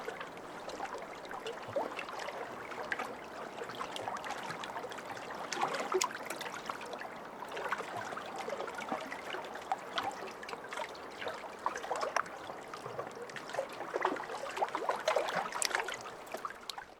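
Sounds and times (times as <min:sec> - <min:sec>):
lake waves lapping against shore: 0:00.0 - 0:16.9.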